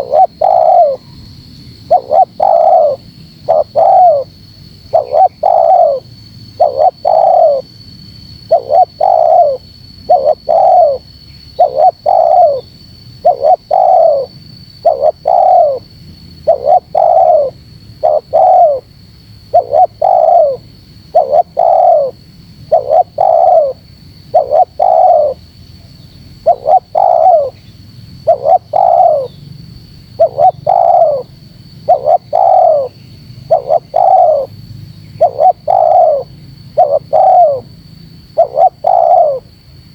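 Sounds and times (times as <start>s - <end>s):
dove cooing: 0.0s - 1.2s, 1.8s - 7.8s, 8.4s - 25.5s, 26.3s - 29.4s, 30.1s - 39.6s.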